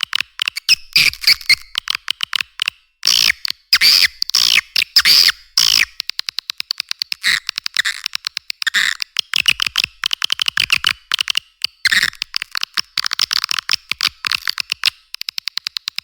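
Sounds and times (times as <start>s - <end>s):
rapid bird clicks: 0.0s - 16.0s.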